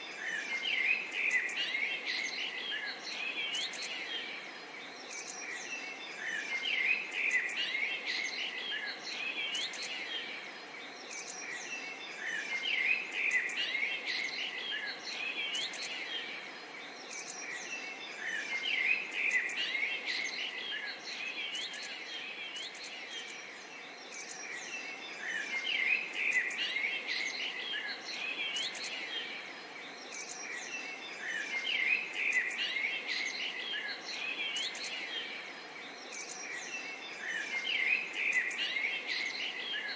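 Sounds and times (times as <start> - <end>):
birds chirping and twittering: 0.0 - 39.9
faint steady hiss: 0.0 - 39.9.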